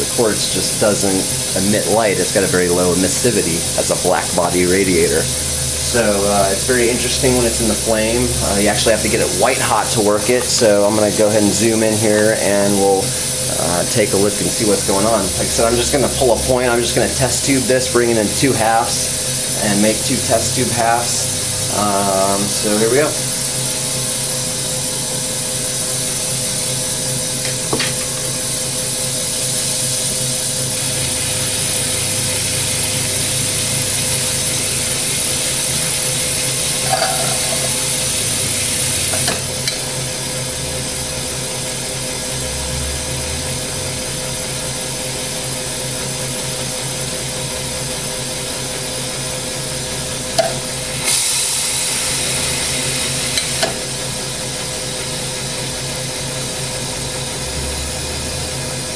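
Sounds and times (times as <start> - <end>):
torch flame hissing: 0.0 - 42.2, 43.6 - 57.8
lathe humming: 0.0 - 58.9.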